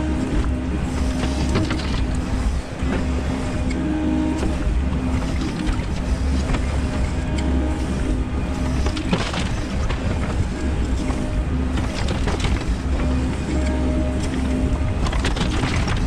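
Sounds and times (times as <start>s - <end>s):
excavator diesel engine running: 0.0s - 16.0s
hydraulics working: 0.0s - 16.0s.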